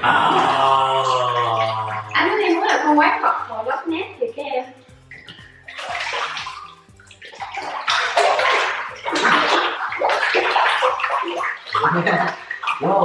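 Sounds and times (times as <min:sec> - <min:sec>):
thick water sloshing in bathtub: 0:00.0 - 0:03.9, 0:04.9 - 0:13.0.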